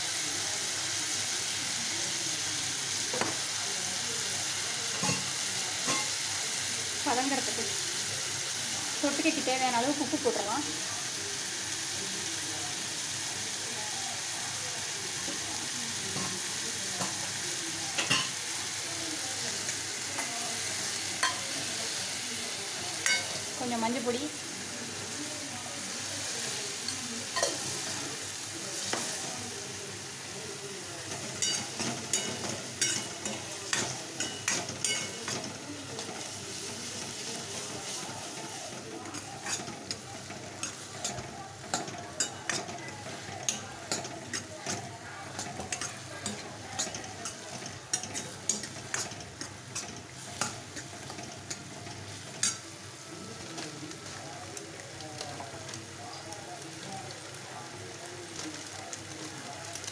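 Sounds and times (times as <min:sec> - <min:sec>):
tomatoes sizzling in hot oil: 0:00.0 - 0:59.9.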